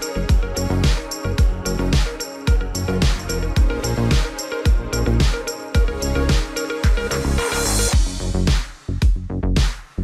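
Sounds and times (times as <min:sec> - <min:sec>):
hi-hat strikes: 0:00.0 - 0:10.0
kick drum beat: 0:00.3 - 0:07.1, 0:08.0 - 0:09.9.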